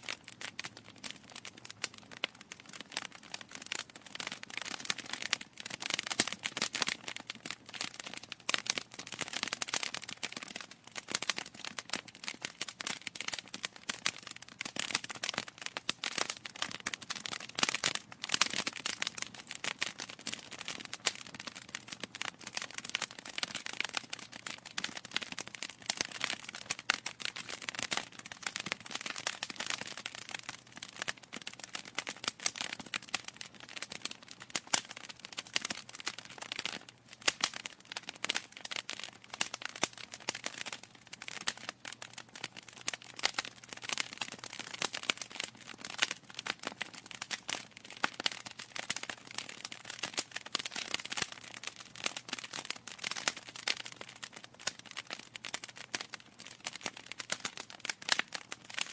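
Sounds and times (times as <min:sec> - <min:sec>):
wood fire crackling: 0:00.1 - 0:56.9, 0:57.5 - 0:58.9.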